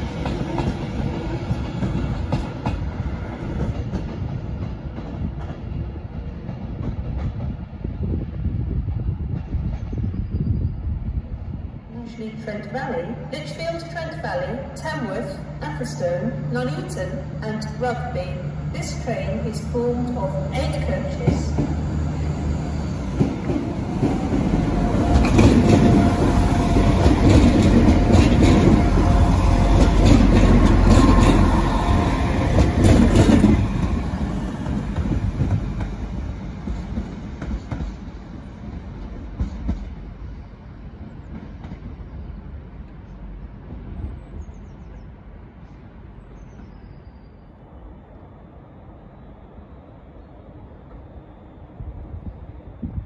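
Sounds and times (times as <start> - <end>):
train running past: 0.0 - 53.0.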